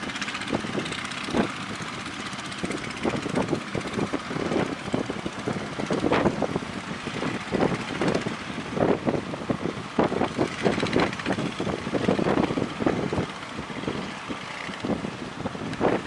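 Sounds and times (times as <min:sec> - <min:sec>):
engine running: 0:00.0 - 0:16.0
wind buffeting the microphone: 0:00.0 - 0:16.0.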